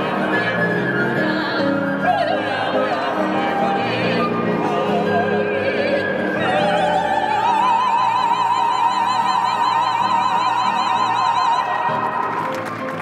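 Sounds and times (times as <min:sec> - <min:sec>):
other voices singing: 0:00.0 - 0:12.0
music underneath: 0:00.0 - 0:13.0.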